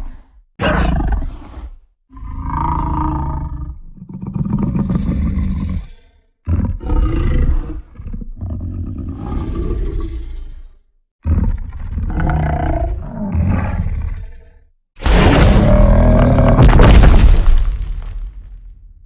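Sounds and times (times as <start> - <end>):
deep dinosaur roars: 0.0 - 17.7.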